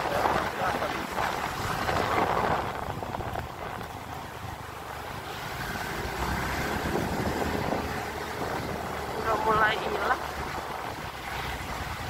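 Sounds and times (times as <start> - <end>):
motorcycle engine and road rumble: 0.0 - 12.0
wind buffeting microphone: 0.0 - 12.0.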